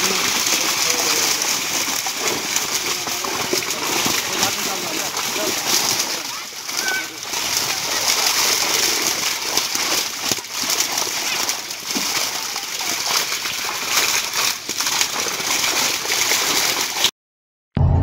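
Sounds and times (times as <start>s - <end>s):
fish thrashing and splashing water: 0.0s - 17.1s.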